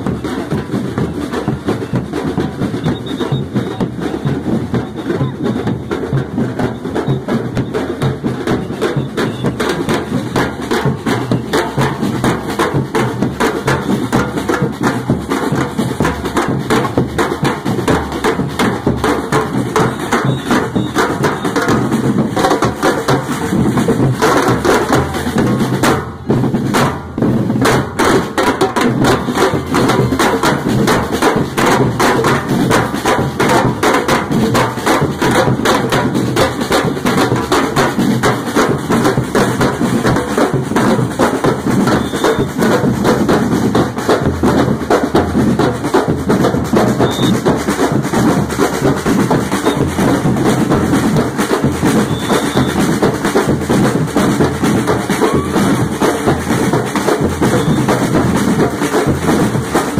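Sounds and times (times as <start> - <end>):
street drum band playing: 0.0 - 59.9.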